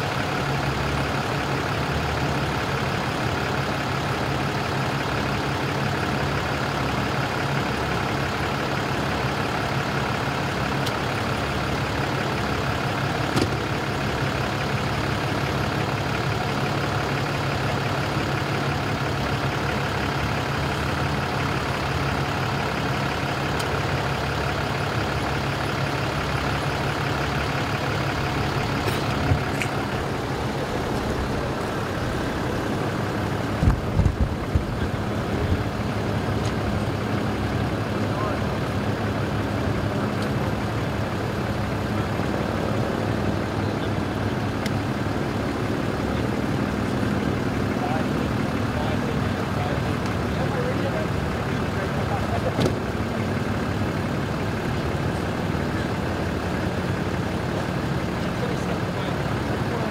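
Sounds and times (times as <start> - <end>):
fire engine idling: 0.0 - 59.9.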